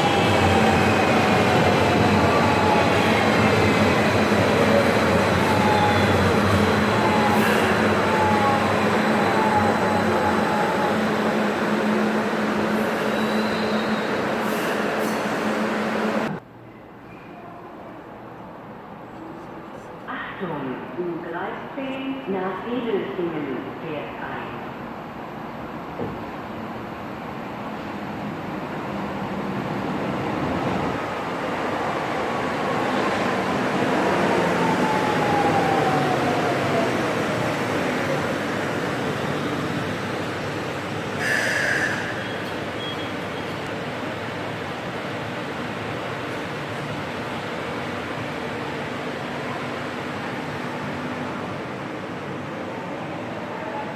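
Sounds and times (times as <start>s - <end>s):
light-rail train rumble: 0.0s - 53.9s.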